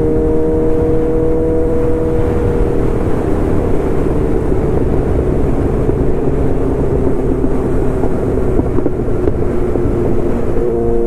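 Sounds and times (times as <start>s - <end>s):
motorcycle engine cruising: 0.0s - 11.0s
wind rushing on microphone: 0.0s - 11.0s.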